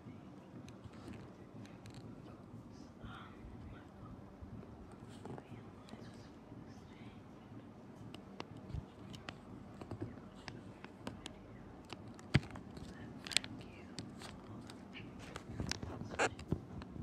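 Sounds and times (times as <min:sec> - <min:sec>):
ceiling fan humming: 0:00.0 - 0:17.0.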